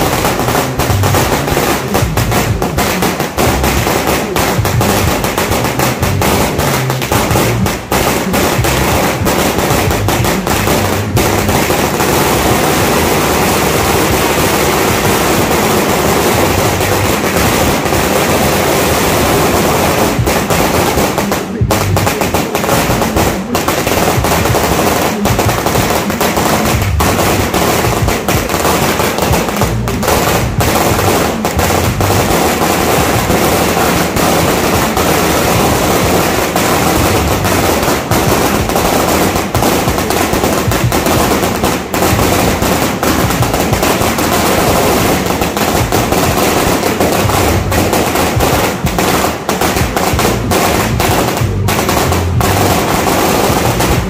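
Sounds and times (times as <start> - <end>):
firecracker string crackling: 0.0 - 54.0.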